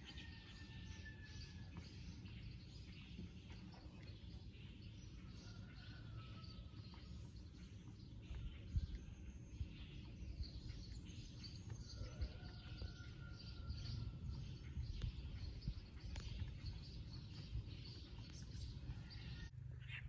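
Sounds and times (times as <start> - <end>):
low background rumble: 0.0 - 20.0
small birds chirping: 0.0 - 20.0.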